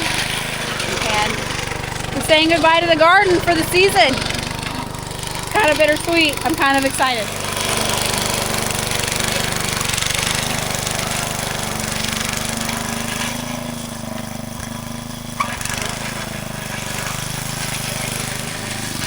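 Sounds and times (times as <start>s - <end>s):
small gasoline engine running: 0.0s - 19.0s.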